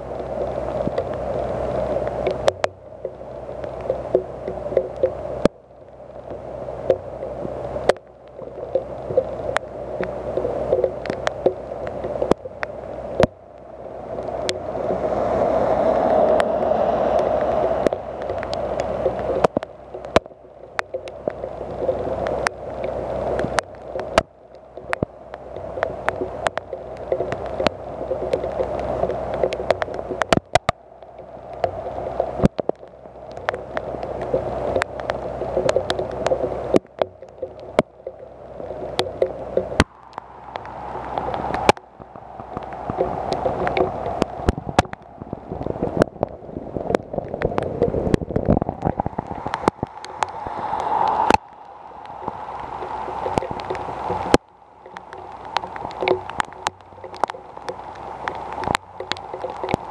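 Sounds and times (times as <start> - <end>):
car tyres hissing on wet street: 0.0 - 36.8, 37.6 - 59.9
rain falling: 0.0 - 59.9
raindrops ticking: 0.0 - 59.9.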